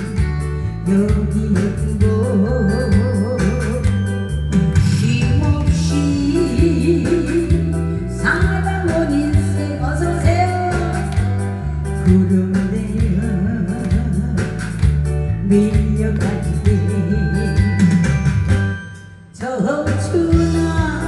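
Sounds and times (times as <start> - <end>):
woman singing into microphone: 0.0 - 4.0, 4.6 - 18.2, 19.3 - 21.0
amplified backing track with bass: 0.0 - 21.0.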